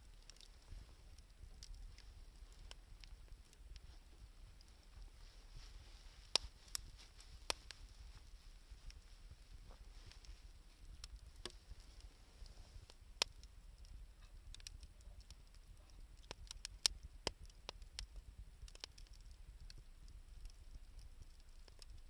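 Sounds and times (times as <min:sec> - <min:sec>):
wood fire popping and snapping: 0:00.0 - 0:22.0.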